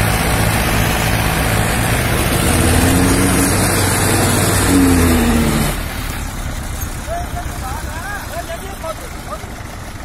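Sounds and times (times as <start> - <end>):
diesel tractor engines under load: 0.0 - 10.0.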